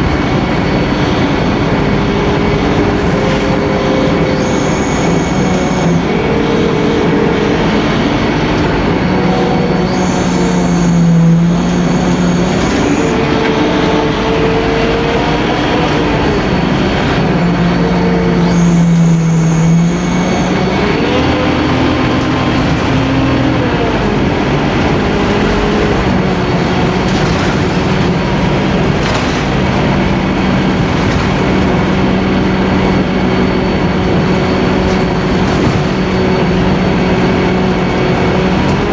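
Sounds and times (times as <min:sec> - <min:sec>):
bus diesel engine running: 0:00.0 - 0:38.9
road noise: 0:00.0 - 0:38.9.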